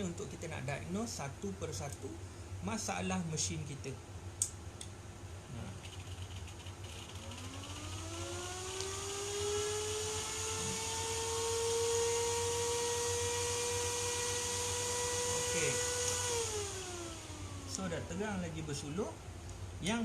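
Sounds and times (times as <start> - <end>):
cooling fan whine: 0.0 - 20.0.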